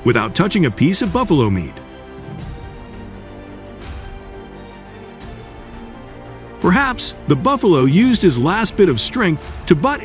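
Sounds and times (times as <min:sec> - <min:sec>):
soft sustained chords music: 0:00.0 - 0:09.6.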